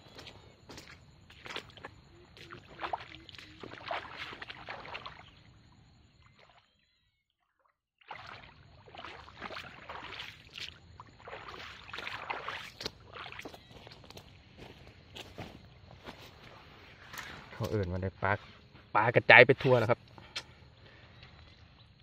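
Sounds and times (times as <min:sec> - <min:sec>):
wading through muddy water: 0:00.0 - 0:06.9, 0:08.0 - 0:22.0.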